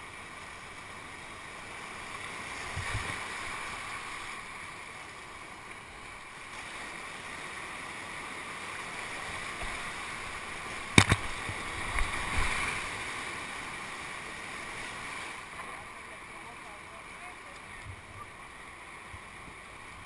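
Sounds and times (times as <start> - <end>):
river whitewater rushing: 0.0 - 20.0.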